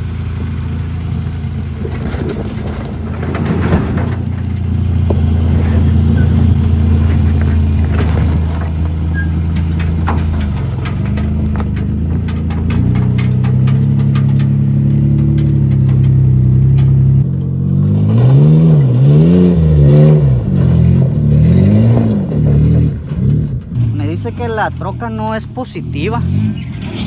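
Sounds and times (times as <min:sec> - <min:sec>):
gravel crunching under tyres: 0:00.0 - 0:27.0
pickup engine at low revs: 0:00.0 - 0:27.0.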